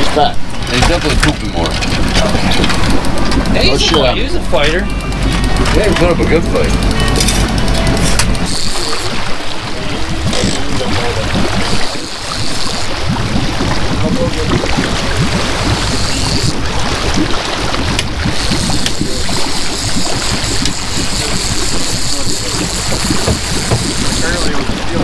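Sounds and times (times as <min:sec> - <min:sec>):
boat engine running: 0:00.0 - 0:25.0
water splashing along hull: 0:00.0 - 0:25.0.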